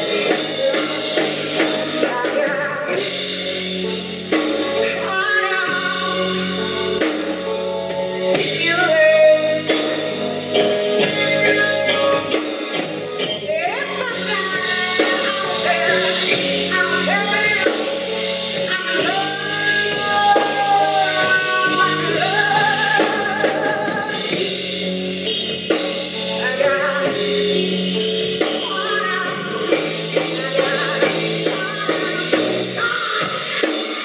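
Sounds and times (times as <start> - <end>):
woman singing with vibrato: 0.0 - 3.6, 4.5 - 7.7, 8.3 - 24.7, 26.2 - 34.0
bass guitar: 0.0 - 34.0
drums: 0.0 - 34.0.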